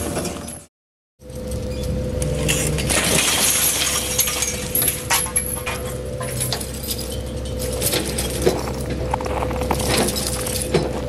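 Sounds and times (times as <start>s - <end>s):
debris clinking and clattering: 0.0s - 11.0s
heavy machinery running: 0.0s - 11.0s.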